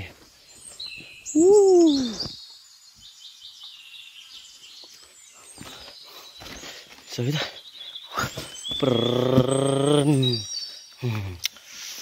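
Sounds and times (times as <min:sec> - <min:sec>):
forest birds chirping: 0:00.0 - 0:12.0.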